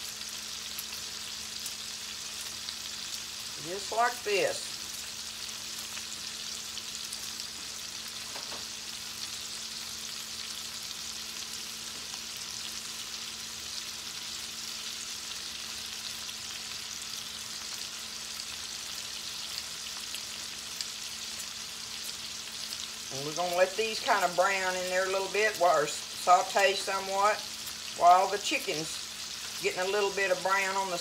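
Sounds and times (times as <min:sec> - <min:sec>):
meat sizzling in oil: 0:00.0 - 0:31.0.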